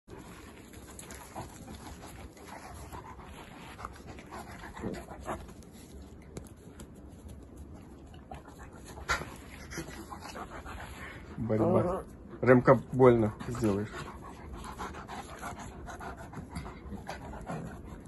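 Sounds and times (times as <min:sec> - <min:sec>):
dogs panting: 0:00.1 - 0:18.0.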